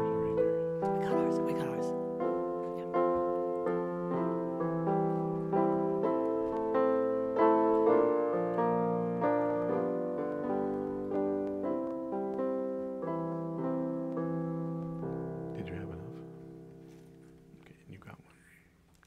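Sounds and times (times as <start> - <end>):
piano keyboard slow melody: 0.0 - 19.0.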